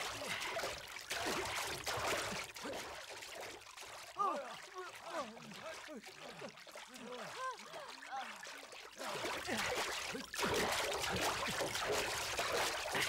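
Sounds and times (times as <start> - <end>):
river water splashing heavily: 0.0 - 13.0.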